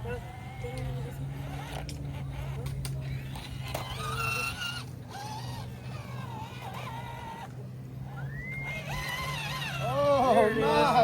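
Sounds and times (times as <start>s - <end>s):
electric motor and gears whining: 0.0s - 11.0s
low hum: 0.0s - 11.0s.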